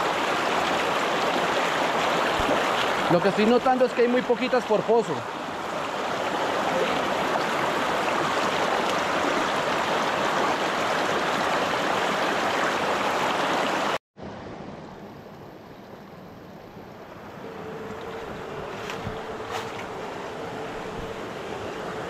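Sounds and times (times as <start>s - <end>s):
creek rushing over stones: 0.0s - 14.0s, 17.0s - 22.0s.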